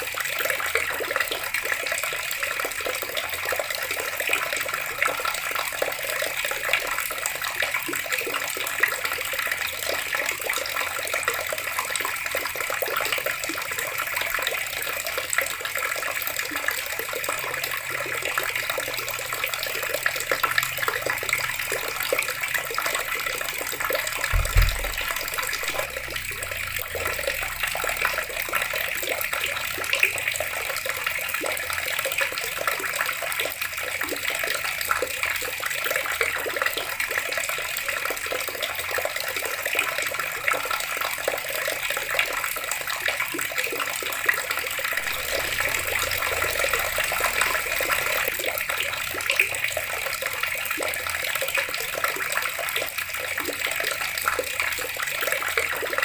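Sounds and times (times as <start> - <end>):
tap water running and splashing: 0.0 - 56.0.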